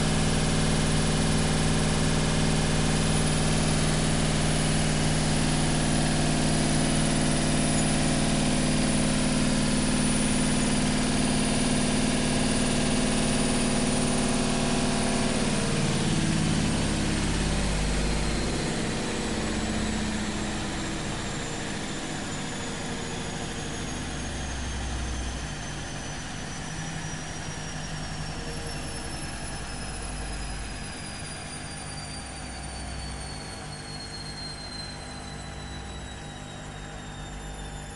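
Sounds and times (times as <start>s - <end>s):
washing machine motor hum: 0.0s - 34.0s
high whine falling in pitch: 0.0s - 37.9s.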